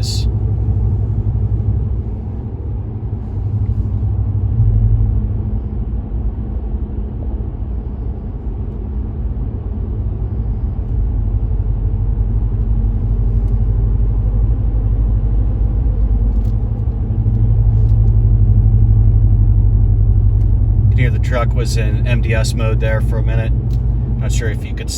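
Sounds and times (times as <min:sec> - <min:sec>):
low exhaust drone: 0:00.0 - 0:24.9.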